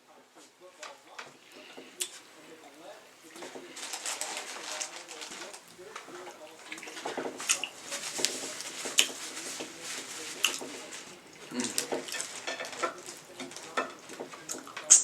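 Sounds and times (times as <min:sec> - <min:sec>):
wet chewing: 0:01.2 - 0:15.0.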